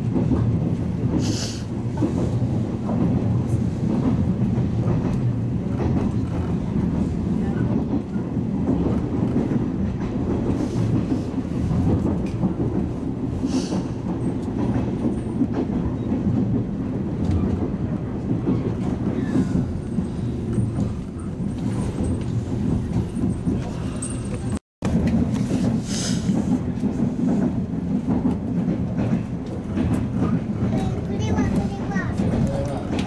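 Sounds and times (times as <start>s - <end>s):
train interior low rumble: 0.0s - 33.0s
wheels clicking over rail joints: 0.0s - 33.0s.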